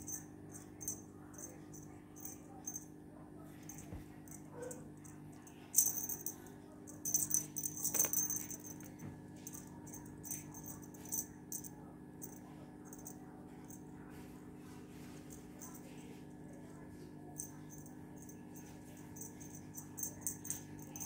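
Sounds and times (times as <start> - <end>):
small bell jingling: 0.0 - 2.9, 3.6 - 13.8, 15.3 - 15.8, 17.4 - 21.0.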